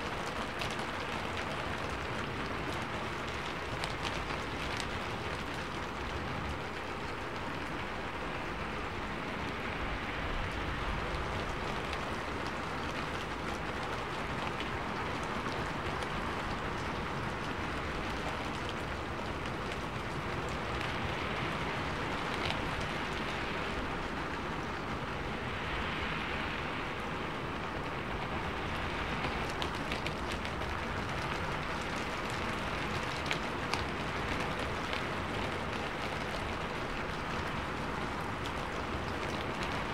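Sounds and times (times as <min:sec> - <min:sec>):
rain-like hiss with pattering: 0:00.0 - 0:39.9.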